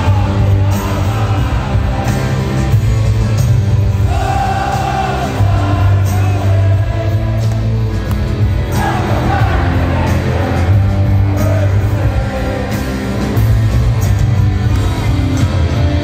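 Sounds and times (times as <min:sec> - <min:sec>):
live rock band: 0:00.0 - 0:16.0.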